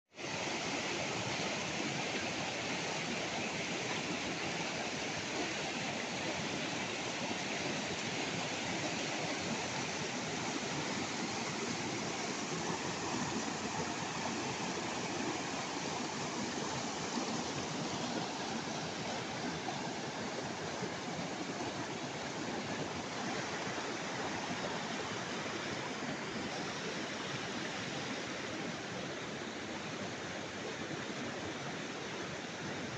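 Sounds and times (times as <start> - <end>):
river rushing over rocks: 0.2 - 32.9.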